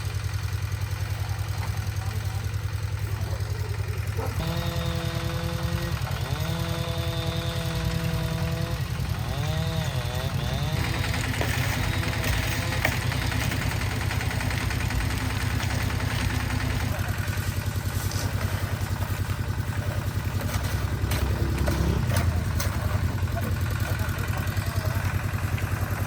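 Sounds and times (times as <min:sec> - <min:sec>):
concrete mixer engine chugging: 0:00.0 - 0:26.0.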